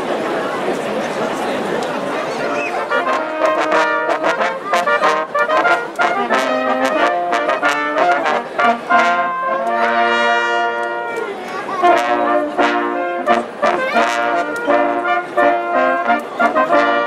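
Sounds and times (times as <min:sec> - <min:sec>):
brass band playing: 0:02.4 - 0:17.0.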